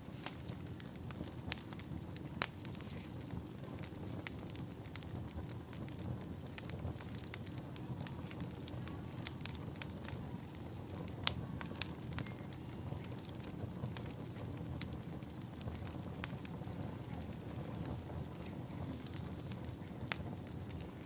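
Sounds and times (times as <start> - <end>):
wood fire crackling: 0.0 - 21.0
sharp pops of fire: 0.1 - 21.0.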